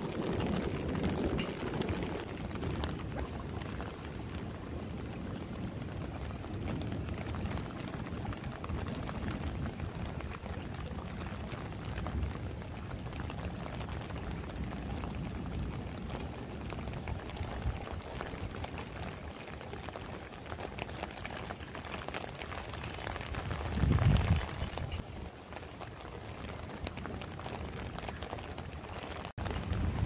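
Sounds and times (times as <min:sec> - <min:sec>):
heavy rain falling: 0:00.0 - 0:30.0
raindrops hitting close by: 0:00.0 - 0:30.0.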